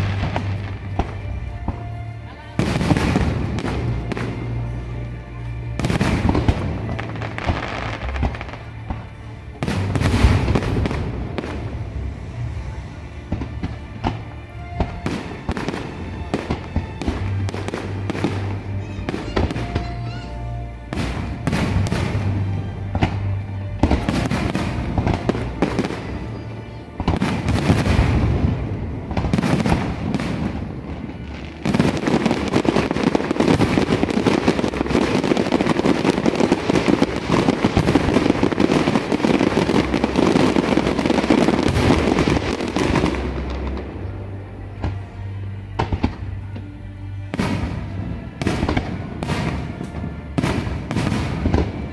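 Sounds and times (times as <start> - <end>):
fireworks bangs and crackling: 0.0 - 51.9
music playing: 0.0 - 51.9.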